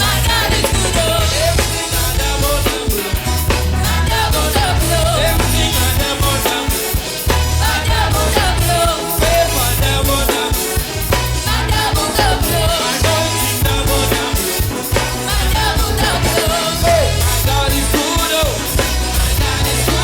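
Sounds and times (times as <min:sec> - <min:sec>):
drum kit and bass beat: 0:00.0 - 0:20.0
wavering vocal melody: 0:00.0 - 0:20.0
worship band playing: 0:00.0 - 0:20.0.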